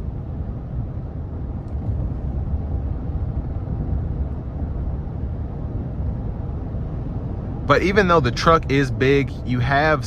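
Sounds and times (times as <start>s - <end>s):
pickup truck rumble from inside: 0.0s - 10.0s.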